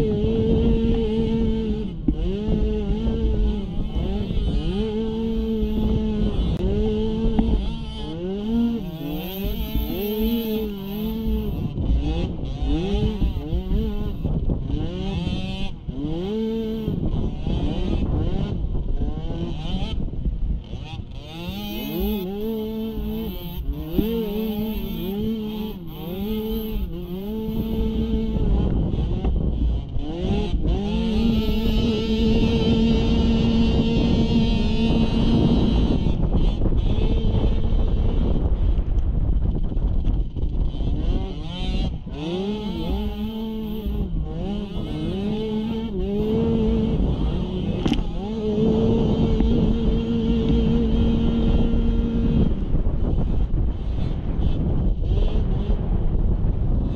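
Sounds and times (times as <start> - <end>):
small atv engine revving: 0.0 - 56.9.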